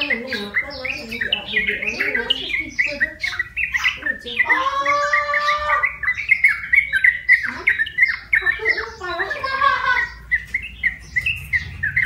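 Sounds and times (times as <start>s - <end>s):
bulbul chattering call: 0.0s - 12.0s.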